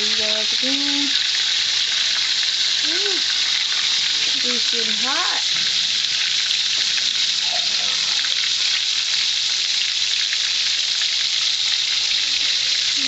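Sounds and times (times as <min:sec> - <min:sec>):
fish sizzling in hot grease: 0:00.0 - 0:13.0.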